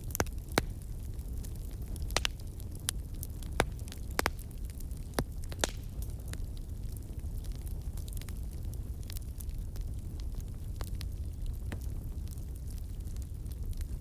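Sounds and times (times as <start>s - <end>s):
crackles and pops of burning wood: 0.0s - 14.0s
low rumble of flames: 0.0s - 14.0s.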